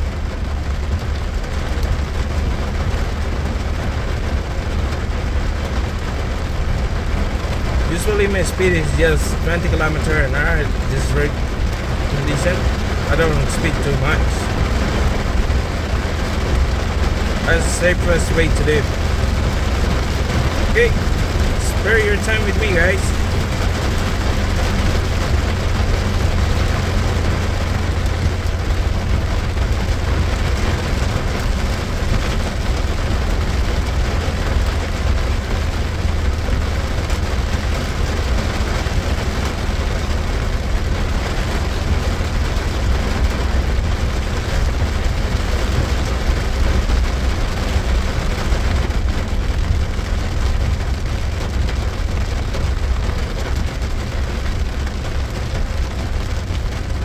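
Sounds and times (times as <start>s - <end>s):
engine and tyres rumbling: 0.0s - 57.0s
rain hiss: 0.0s - 57.0s.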